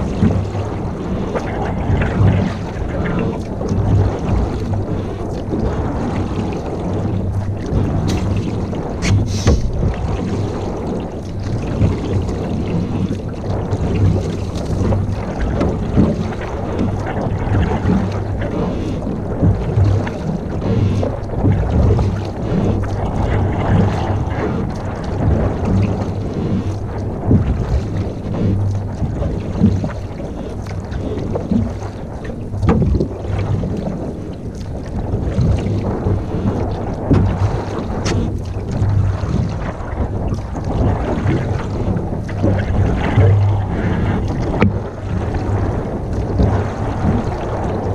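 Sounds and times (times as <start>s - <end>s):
water around boat: 0.0s - 47.9s
wind buffeting microphone: 0.0s - 47.9s.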